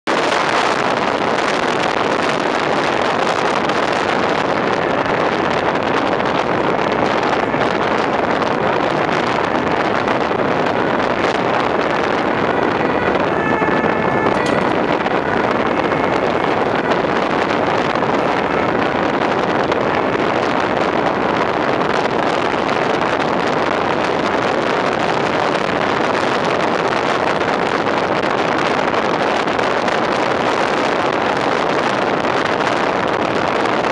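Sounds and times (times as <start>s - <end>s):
truck engine and road noise: 0.0s - 33.9s
wind on microphone: 0.0s - 33.9s.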